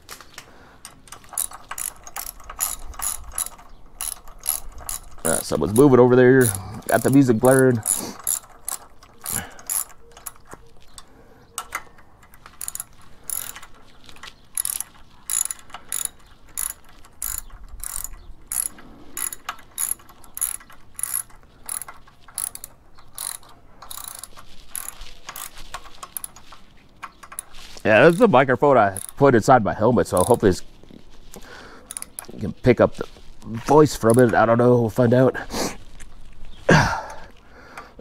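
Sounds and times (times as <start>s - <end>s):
ratchet wrench clicking: 0.8s - 29.4s, 30.0s - 30.6s, 31.3s - 32.3s, 33.9s - 34.4s.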